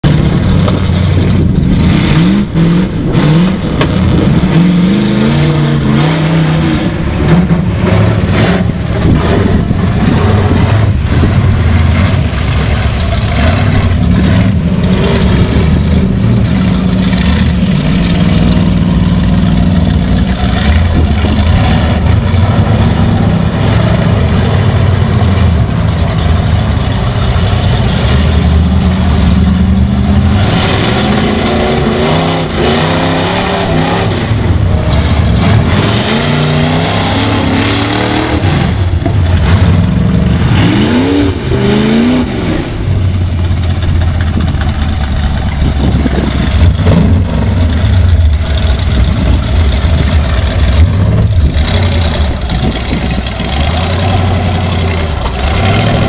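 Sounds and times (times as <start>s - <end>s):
off-road engines revving: 0.0s - 56.0s.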